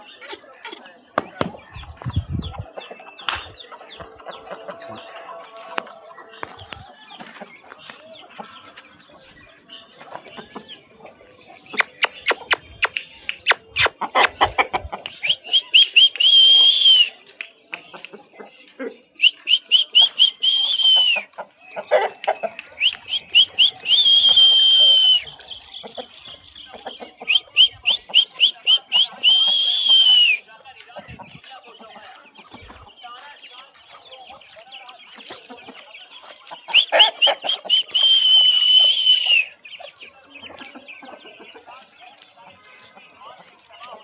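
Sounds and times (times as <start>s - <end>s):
chickens clucking and calling: 0.0s - 44.0s.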